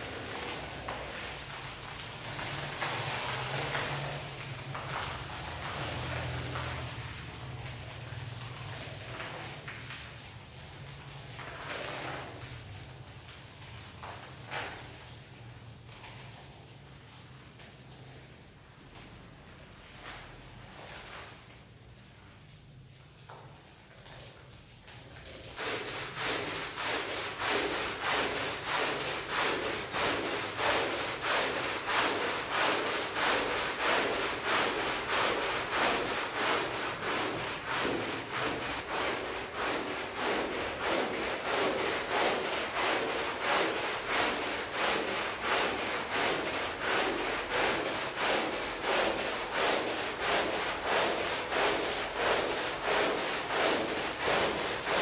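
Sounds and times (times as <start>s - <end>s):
brush scrubbing a rug: 0.0s - 55.0s.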